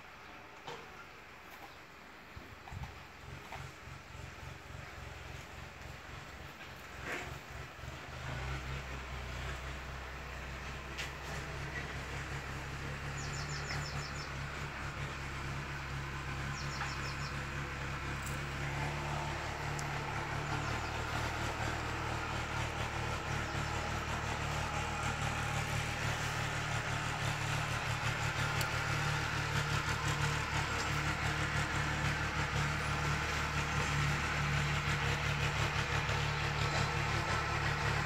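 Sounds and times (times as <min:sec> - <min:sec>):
engine humming: 0:00.0 - 0:38.0.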